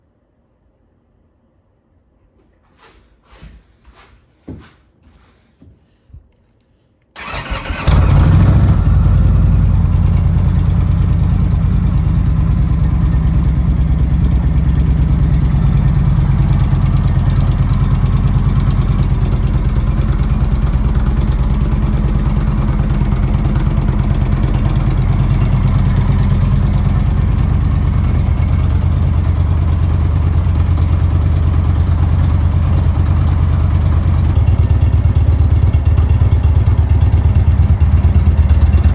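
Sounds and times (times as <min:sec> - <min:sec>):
motorcycle engine starting and idling: 0:07.2 - 0:38.9.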